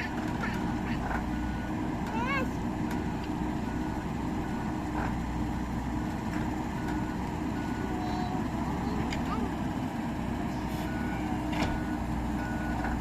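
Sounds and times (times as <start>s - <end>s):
diesel machinery running: 0.0s - 13.0s.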